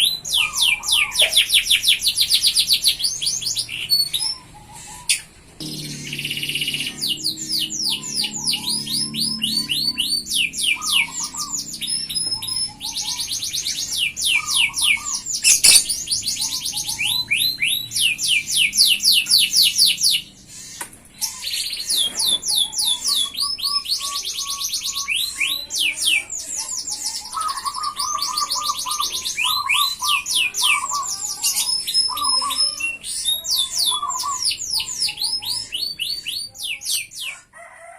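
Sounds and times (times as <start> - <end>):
canary singing trills: 0.0 - 37.5.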